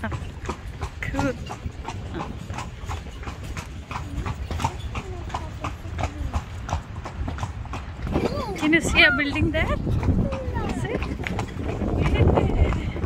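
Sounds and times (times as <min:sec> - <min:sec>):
horse hooves clip-clopping on pavement: 0:00.0 - 0:13.0.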